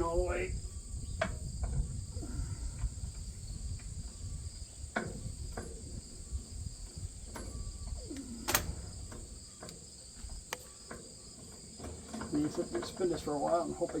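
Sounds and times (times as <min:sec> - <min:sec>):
high insect chirring: 0:00.0 - 0:14.0.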